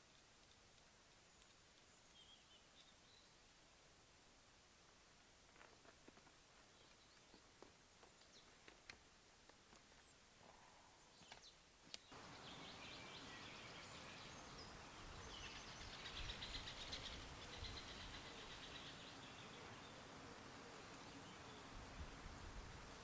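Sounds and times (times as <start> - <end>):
songbirds chirping: 0.0 - 23.0
steady background hiss: 0.0 - 23.0.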